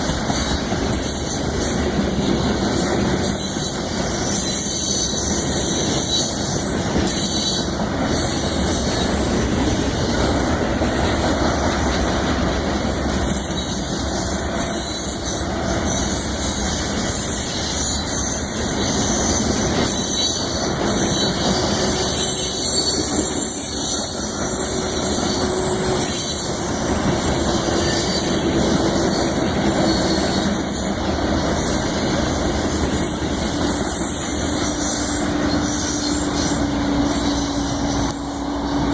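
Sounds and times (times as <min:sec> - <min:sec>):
high wheel squeal: 0:00.0 - 0:10.5, 0:11.2 - 0:38.9
train wheels rumbling on rail: 0:00.0 - 0:38.9.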